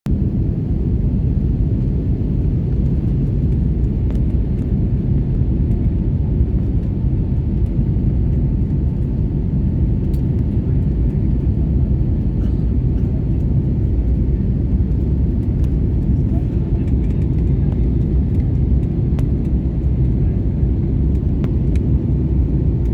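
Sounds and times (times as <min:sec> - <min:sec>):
airliner engine rumble: 0:00.0 - 0:22.9.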